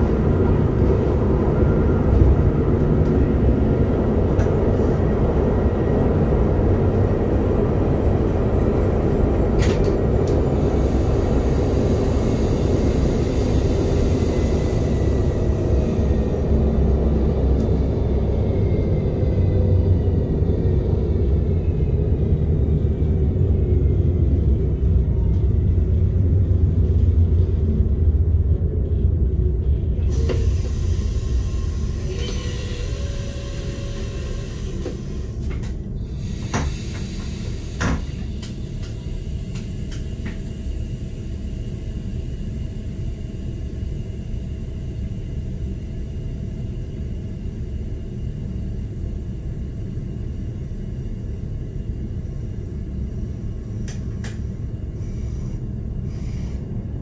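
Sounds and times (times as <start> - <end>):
train cab rumble: 0.0 - 57.0.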